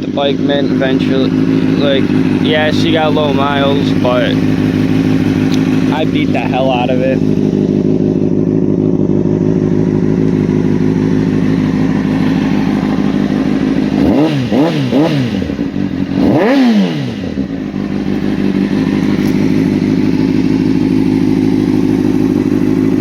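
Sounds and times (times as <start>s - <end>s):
motorcycle engine idling: 0.0s - 23.0s
motorcycle engine revving: 0.0s - 23.0s.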